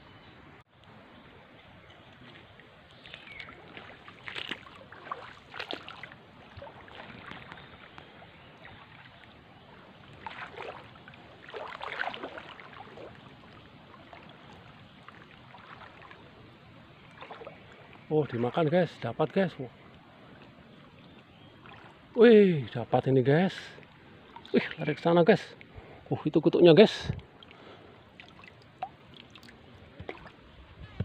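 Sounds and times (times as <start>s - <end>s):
water sloshing and splashing: 1.4s - 26.4s, 27.1s - 30.8s.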